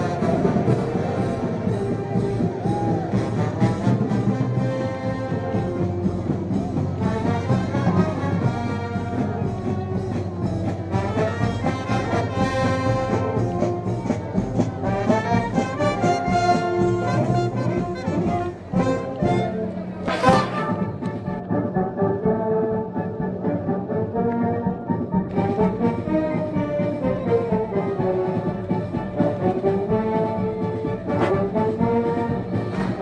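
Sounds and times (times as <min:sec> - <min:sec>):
brass band playing: 0:00.0 - 0:21.4, 0:25.3 - 0:33.0.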